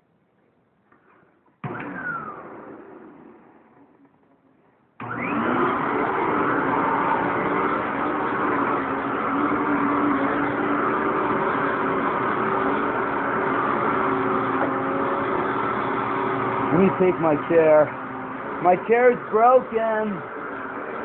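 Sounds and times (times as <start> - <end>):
vacuum cleaner motor: 1.6 - 4.1, 5.0 - 21.0.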